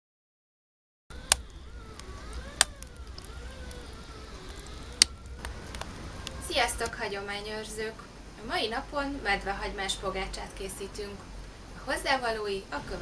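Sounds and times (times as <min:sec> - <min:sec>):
fire crackling pops: 0:01.1 - 0:12.3
wood fire rumbling: 0:01.1 - 0:13.0.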